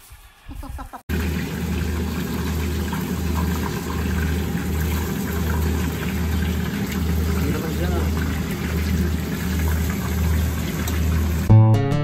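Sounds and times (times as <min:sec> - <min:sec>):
fish sizzling in a frying pan: 0:01.1 - 0:11.5.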